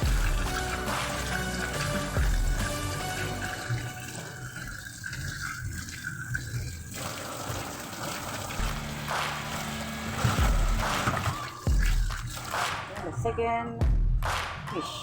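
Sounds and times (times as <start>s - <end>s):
water running from a tap: 0.0s - 12.8s.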